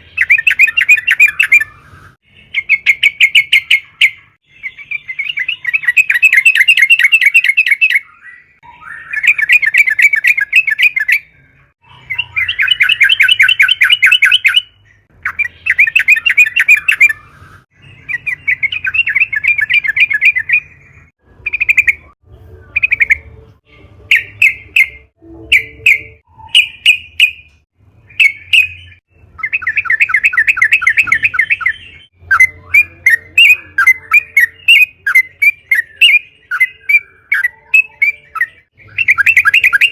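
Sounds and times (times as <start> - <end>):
bulbul singing trilled phrases: 0.0 - 39.9.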